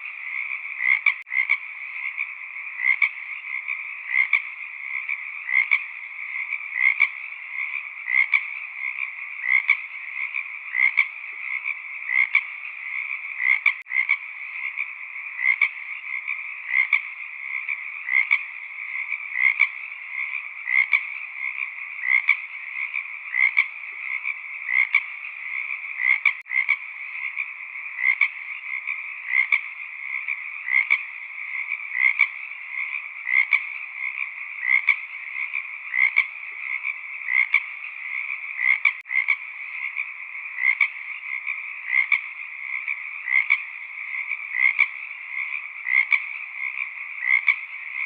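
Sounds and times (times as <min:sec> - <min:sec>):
frogs croaking: 0:00.0 - 0:48.0
loud frog call: 0:00.0 - 0:48.0.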